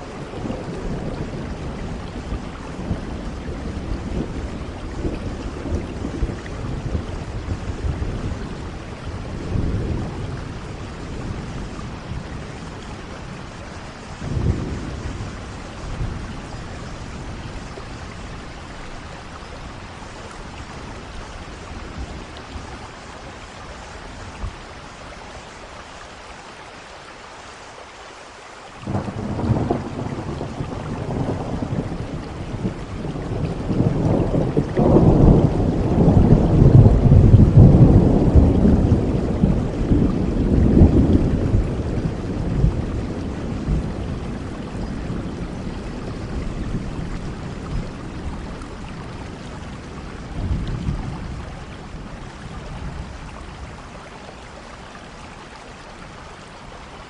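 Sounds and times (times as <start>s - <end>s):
low rumbling thunder: 0.0s - 22.9s, 28.8s - 54.5s
steady rain falling: 0.0s - 57.0s.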